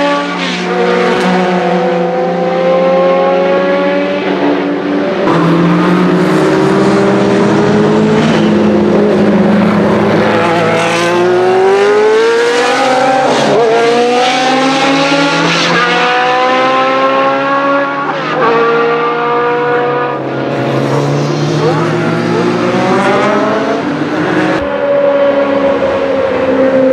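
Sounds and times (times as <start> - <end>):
racing car engine accelerating: 0.0 - 26.9.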